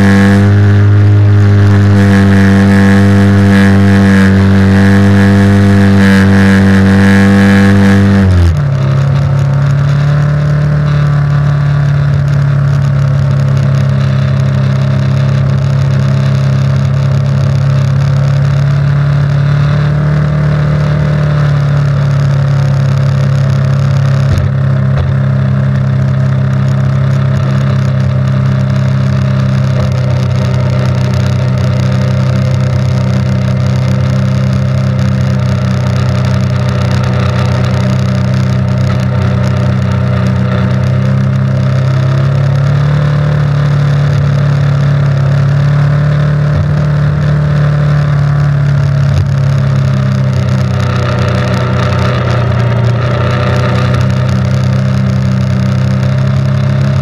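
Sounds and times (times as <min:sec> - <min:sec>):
engine running at high speed: 0:00.0 - 0:57.0.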